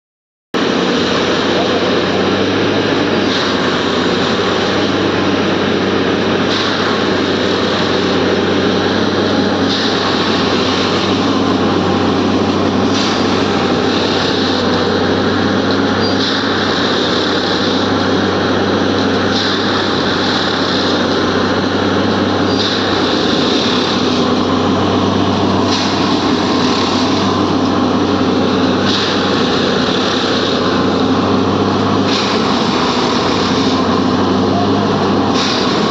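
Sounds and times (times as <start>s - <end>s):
machine engine running steadily: 0.6s - 35.9s.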